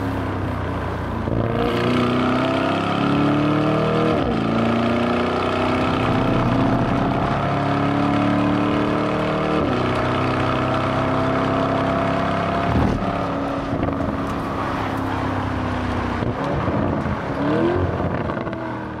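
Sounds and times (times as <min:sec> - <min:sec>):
car engine revving hard: 0:01.2 - 0:15.1, 0:16.2 - 0:18.8.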